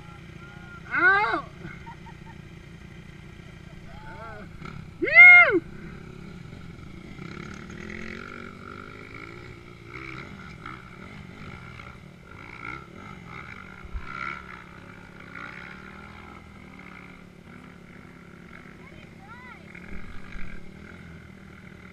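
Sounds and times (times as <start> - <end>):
dirt bike engine revving: 0.0 - 21.9
dirt bike engines running: 0.0 - 21.9.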